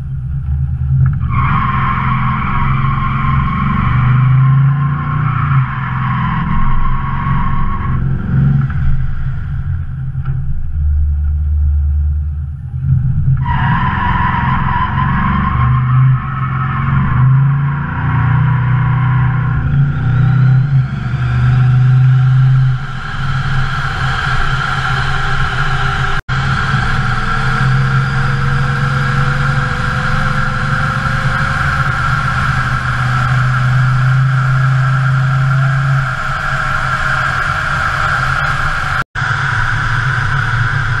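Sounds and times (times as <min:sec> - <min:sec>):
car engine cruising: 0:00.0 - 0:41.0
road noise: 0:00.0 - 0:41.0.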